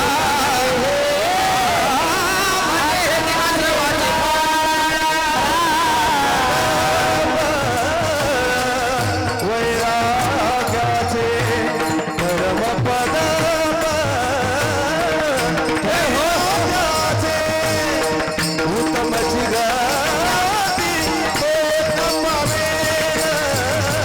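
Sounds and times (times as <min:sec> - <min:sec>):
person singing ornamented melody: 0:00.0 - 0:24.0.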